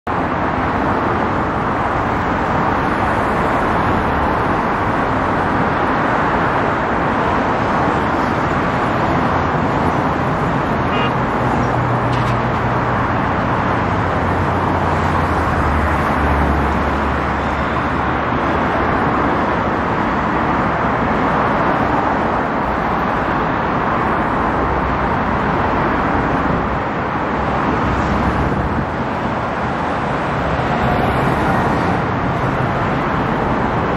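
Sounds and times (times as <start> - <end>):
heavy vehicle engine drone: 0.1 - 33.9.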